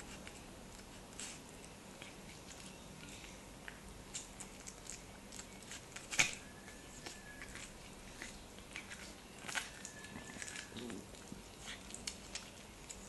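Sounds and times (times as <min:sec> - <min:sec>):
cat chewing corn kernels: 0:00.0 - 0:13.0.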